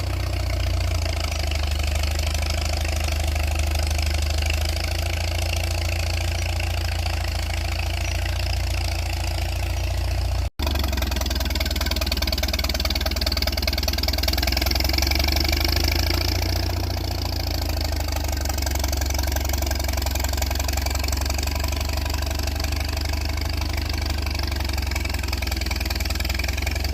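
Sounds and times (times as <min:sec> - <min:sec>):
tractor engine idling: 0:00.0 - 0:26.9.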